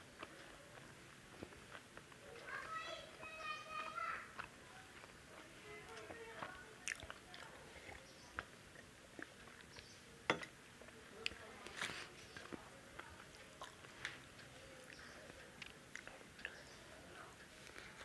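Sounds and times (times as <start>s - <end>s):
mouth clicks and chewing: 0.0s - 18.0s
rice mixed with fingers: 0.0s - 18.0s.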